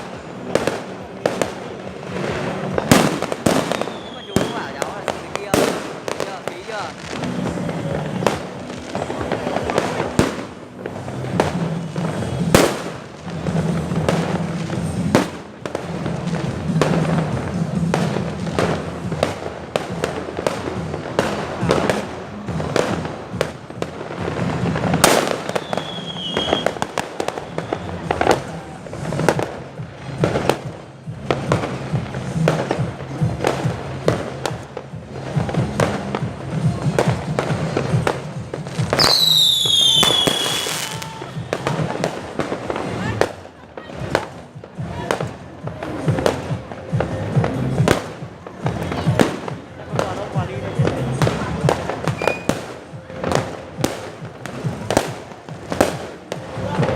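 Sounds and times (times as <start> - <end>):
fireworks banging: 0.0 - 56.9.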